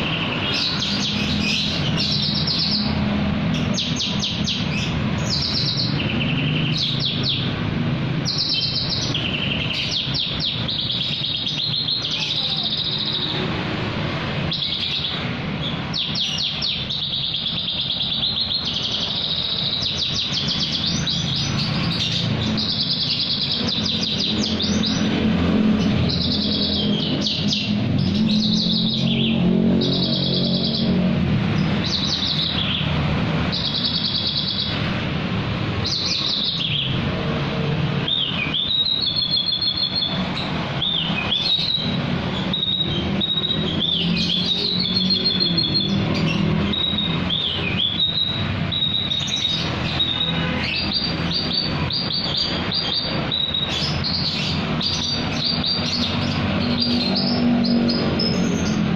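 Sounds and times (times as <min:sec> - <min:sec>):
bird singing trills: 0:00.0 - 0:58.9.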